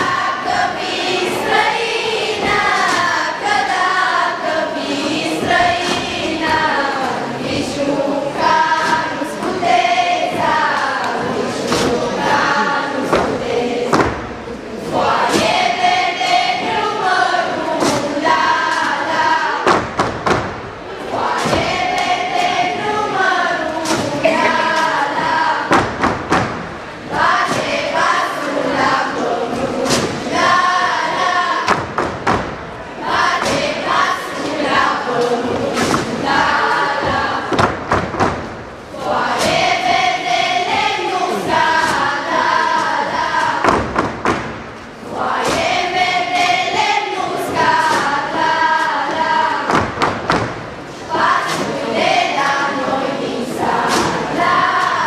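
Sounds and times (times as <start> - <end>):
girls singing together: 0.0 - 55.0.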